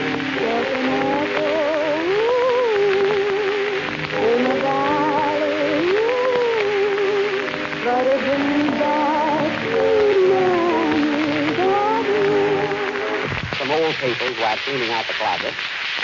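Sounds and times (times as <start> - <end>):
old recording hiss and crackle: 0.0 - 16.0.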